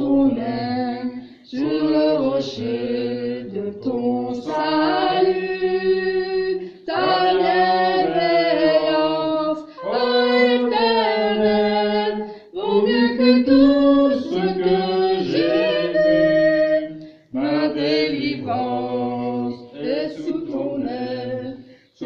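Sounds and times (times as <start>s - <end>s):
group singing a hymn in harmony: 0.0s - 22.0s.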